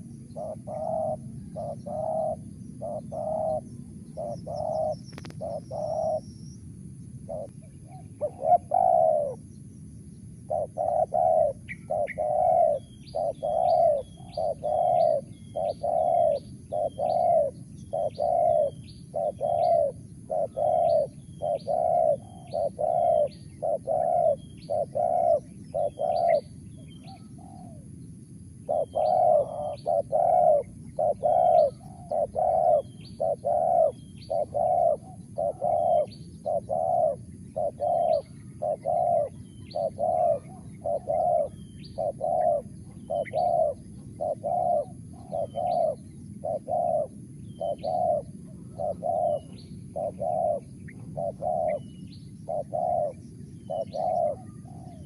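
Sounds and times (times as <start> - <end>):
dove cooing: 0.0 - 6.3, 7.2 - 9.5, 10.4 - 27.9, 28.6 - 55.0
small birds chirping: 0.0 - 55.0.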